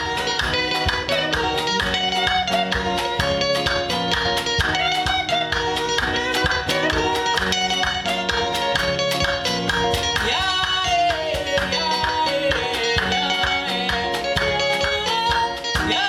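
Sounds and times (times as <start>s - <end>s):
bass line: 0.0s - 16.0s
electric guitar: 0.0s - 16.0s
steady drum beat: 0.0s - 16.0s.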